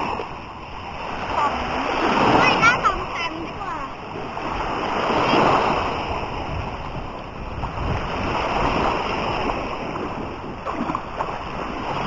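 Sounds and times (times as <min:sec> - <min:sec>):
sea waves washing in surf: 0:00.0 - 0:12.0
wind buffeting microphone: 0:00.0 - 0:12.0.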